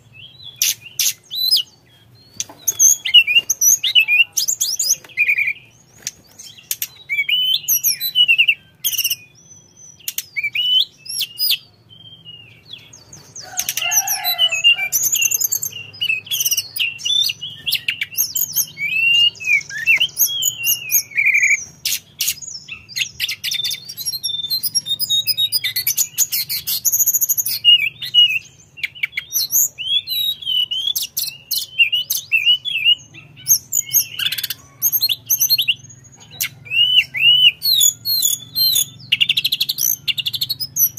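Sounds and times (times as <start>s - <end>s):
bird singing whistled song: 0.0s - 40.9s.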